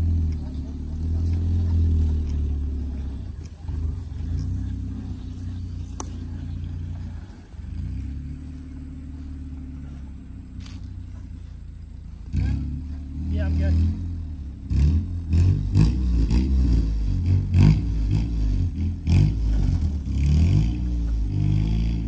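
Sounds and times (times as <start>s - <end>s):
car engine running under load: 0.0s - 22.0s.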